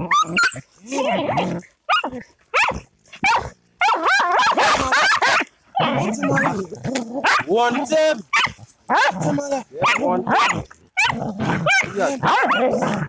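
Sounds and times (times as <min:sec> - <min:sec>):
dogs barking and yelping: 0:00.0 - 0:07.6, 0:08.2 - 0:13.0.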